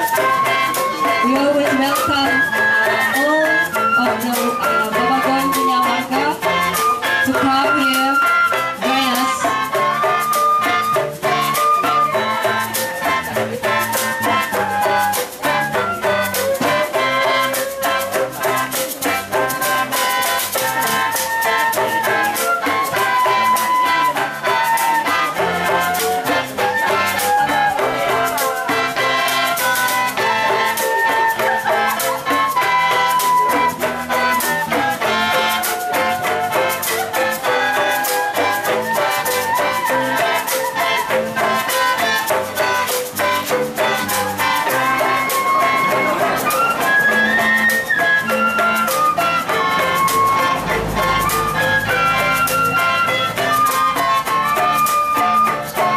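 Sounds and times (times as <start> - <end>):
bamboo flute: 0.0 - 55.9
bamboo percussion rattling: 0.0 - 55.9
mouth organ melody: 0.0 - 55.9.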